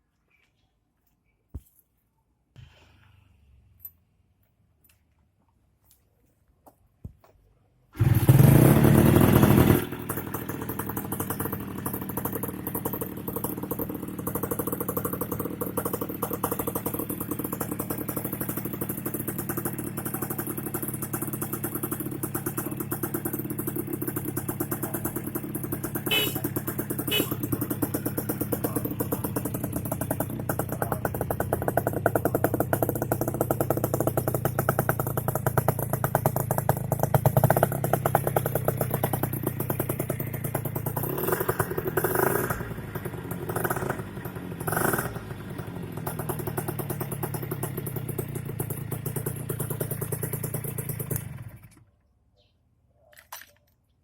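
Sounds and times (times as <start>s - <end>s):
two-stroke motorcycle engine idling: 8.0s - 51.8s.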